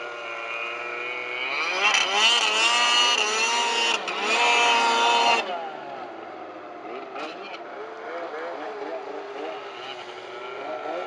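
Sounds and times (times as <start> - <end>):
snowmobile engine revving: 0.0 - 6.0, 6.8 - 11.0.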